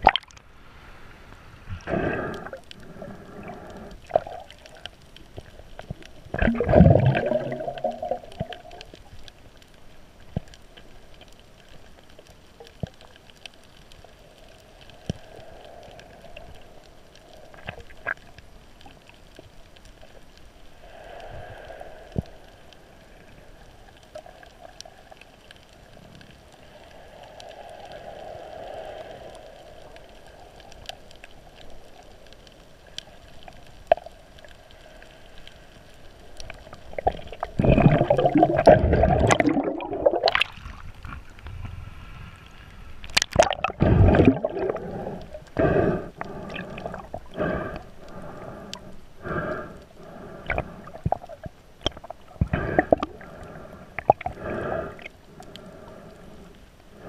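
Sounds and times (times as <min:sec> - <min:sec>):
muffled underwater wash: 0:00.0 - 0:57.0.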